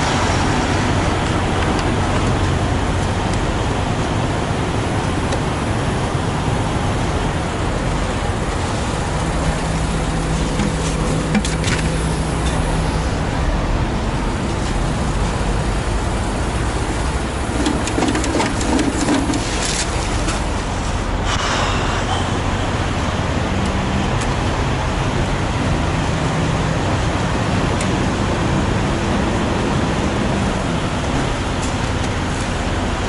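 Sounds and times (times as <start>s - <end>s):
truck engines and road traffic: 0.0s - 33.0s.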